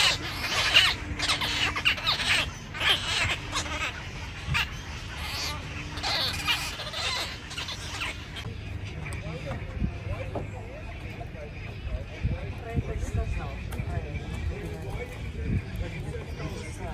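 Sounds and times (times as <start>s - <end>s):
waterbirds calling scratchily: 0.0s - 16.9s.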